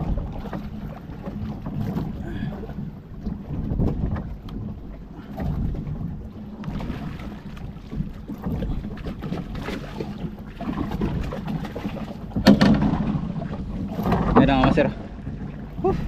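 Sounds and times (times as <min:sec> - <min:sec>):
low engine hum: 0:00.0 - 0:16.0
water: 0:00.0 - 0:16.0
wind: 0:00.0 - 0:16.0.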